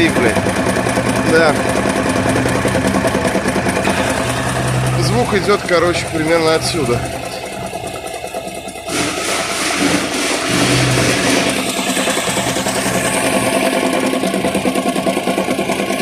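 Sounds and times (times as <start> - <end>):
car engine running: 0.0 - 16.0
rapid rhythmic knocking: 0.0 - 16.0.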